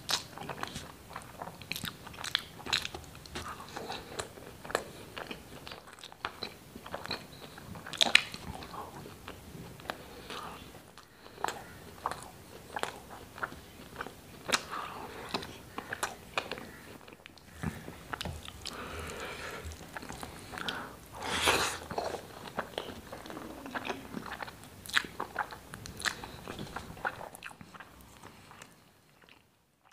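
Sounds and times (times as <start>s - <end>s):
wet chewing with mouth clicks: 0.0s - 29.9s.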